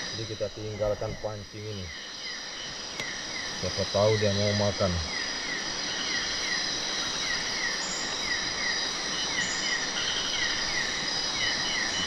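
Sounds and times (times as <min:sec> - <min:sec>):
crickets ringing: 0:00.0 - 0:12.0
steady hiss: 0:00.0 - 0:12.0.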